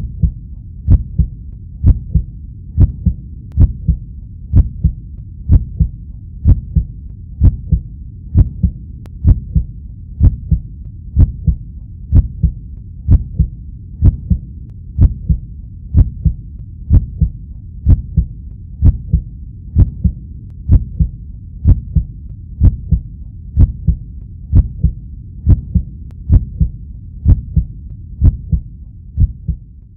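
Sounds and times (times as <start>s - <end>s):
heartbeat double thump: 0.0s - 29.7s.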